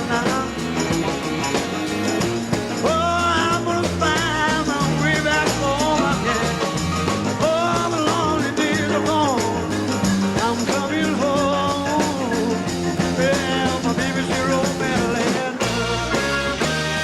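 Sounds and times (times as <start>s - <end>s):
rock band playing: 0.0s - 17.0s
rock singing: 0.0s - 17.0s.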